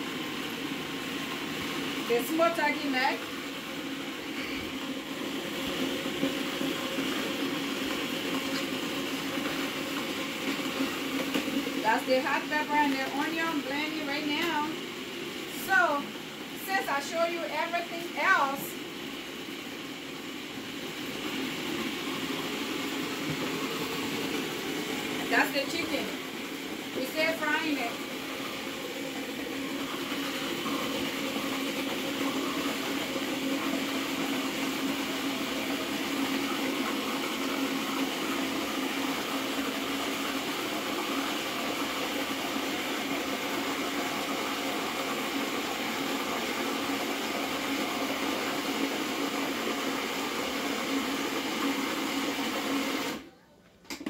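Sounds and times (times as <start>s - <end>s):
blender running: 0.0s - 53.3s.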